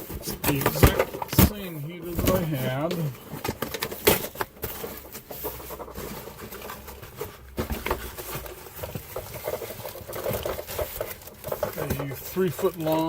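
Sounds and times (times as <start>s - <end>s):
cardboard packaging rustling: 0.0s - 13.0s.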